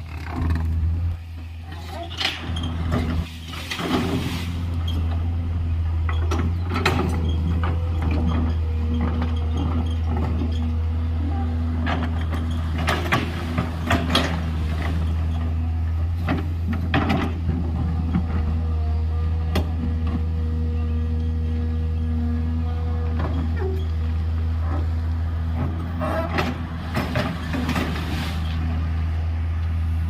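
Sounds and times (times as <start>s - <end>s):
excavator diesel engine: 0.0s - 30.0s.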